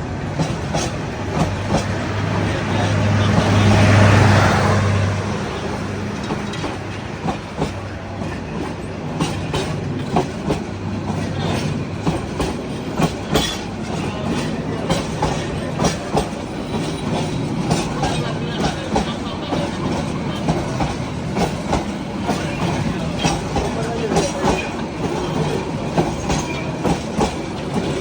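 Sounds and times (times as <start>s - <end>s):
low train engine hum: 0.0s - 28.0s
train wheels clattering on rails: 0.0s - 28.0s.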